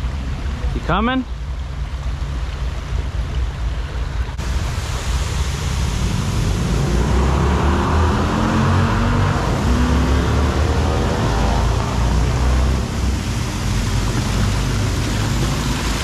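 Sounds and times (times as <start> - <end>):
low rumble: 0.0 - 16.0
waterfall splashing onto rocks: 1.9 - 16.0.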